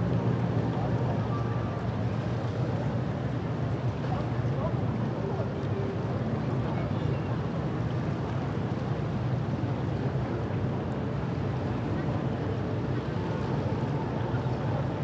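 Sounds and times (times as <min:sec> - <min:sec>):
city and water noise: 0:00.0 - 0:15.0.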